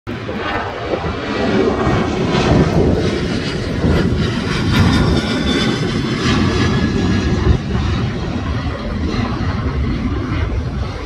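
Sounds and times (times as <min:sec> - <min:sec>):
jet engines running: 0:00.1 - 0:11.0.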